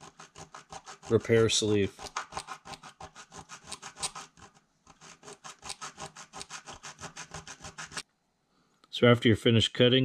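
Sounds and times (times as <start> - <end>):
hand saw cutting brass tubing: 0.0 - 8.0.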